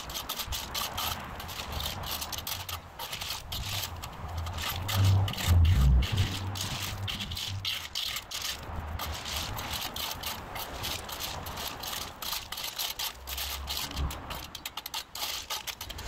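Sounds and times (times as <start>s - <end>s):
rake dragging stones: 0.0s - 16.0s.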